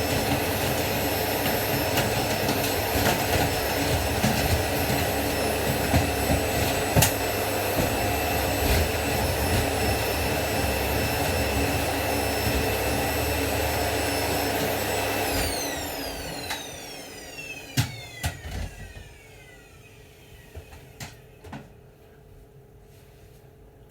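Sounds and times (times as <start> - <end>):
vacuum cleaner whine: 0.0 - 22.0.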